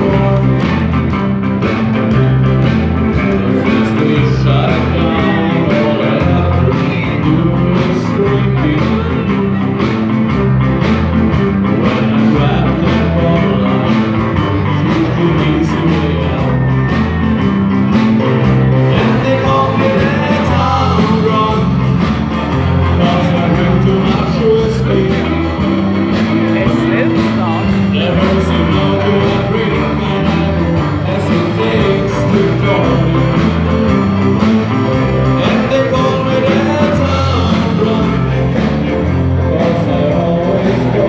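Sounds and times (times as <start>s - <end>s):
live rock and roll band: 0.0s - 41.0s
person singing: 0.0s - 41.0s.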